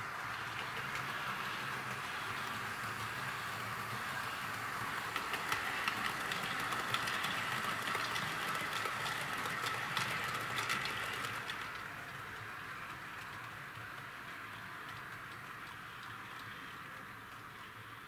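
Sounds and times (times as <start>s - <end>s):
model train motor whine: 0.0s - 18.0s
train wheels clicking over track: 0.0s - 18.0s.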